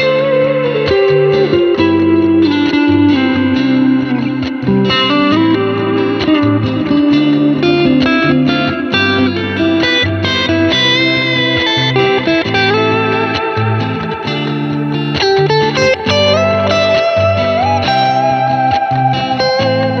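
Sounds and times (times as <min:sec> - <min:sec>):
electric guitar notes and chords: 0:00.0 - 0:20.0.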